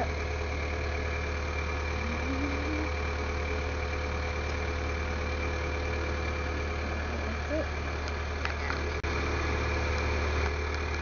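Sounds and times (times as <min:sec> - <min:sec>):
lift engine idling: 0:00.0 - 0:11.0.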